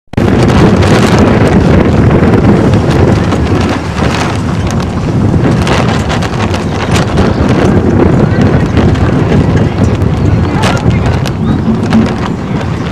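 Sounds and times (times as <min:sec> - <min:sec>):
wind buffeting microphone: 0:00.1 - 0:12.9.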